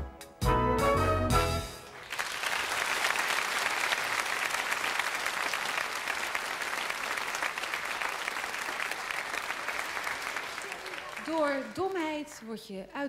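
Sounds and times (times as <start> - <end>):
large audience applauding: 1.8 - 12.4.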